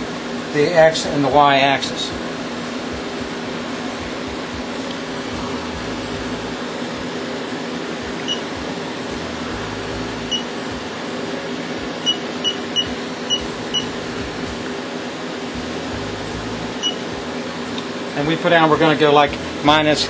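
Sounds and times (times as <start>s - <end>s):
milling machine hum: 0.0s - 20.0s.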